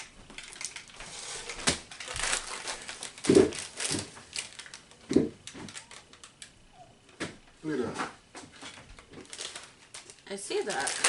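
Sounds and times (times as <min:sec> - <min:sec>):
snack packaging crinkling: 0:00.0 - 0:06.6, 0:08.5 - 0:11.0.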